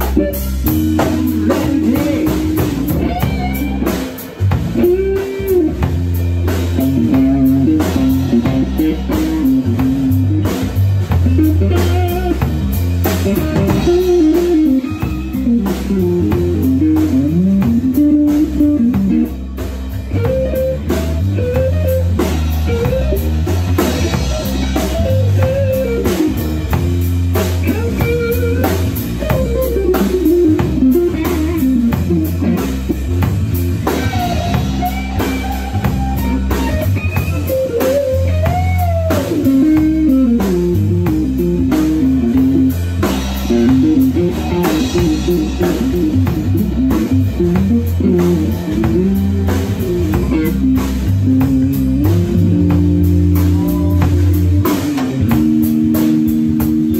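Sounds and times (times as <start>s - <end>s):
drum kit: 0.0s - 56.9s
electric bass: 0.0s - 56.9s
electric guitar lead: 0.0s - 56.9s.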